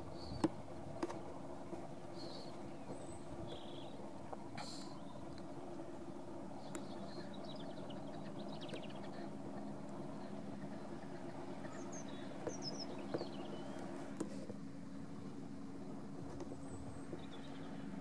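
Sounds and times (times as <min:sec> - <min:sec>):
birds chirping: 0:00.0 - 0:14.2, 0:15.7 - 0:18.0.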